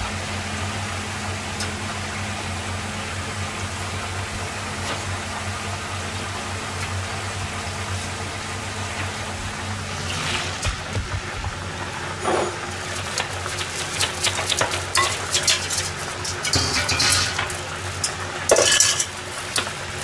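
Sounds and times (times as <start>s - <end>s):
induction cooktop hum: 0.0s - 20.0s.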